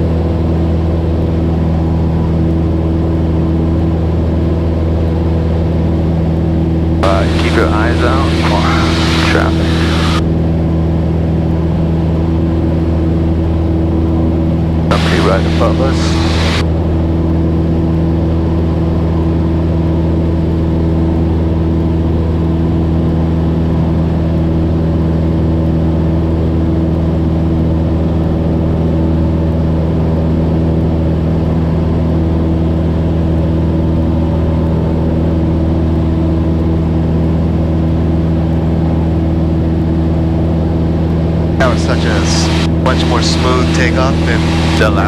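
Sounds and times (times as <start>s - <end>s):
propeller plane engine drone: 0.0s - 45.0s.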